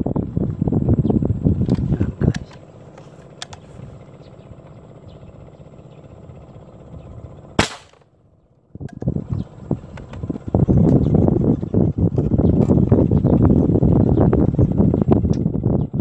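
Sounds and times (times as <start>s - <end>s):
wind buffeting the microphone: 0.0s - 7.6s, 8.7s - 16.0s.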